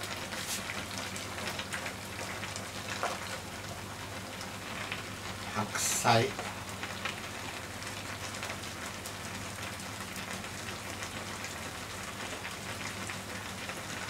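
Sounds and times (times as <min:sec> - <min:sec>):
broth simmering and sizzling: 0:00.0 - 0:14.0.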